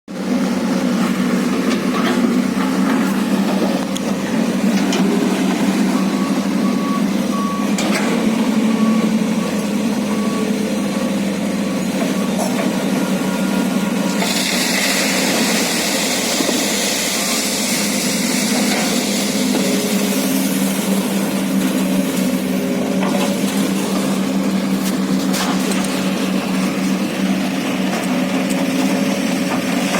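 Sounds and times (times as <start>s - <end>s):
excavator diesel engine running: 0.1s - 29.9s.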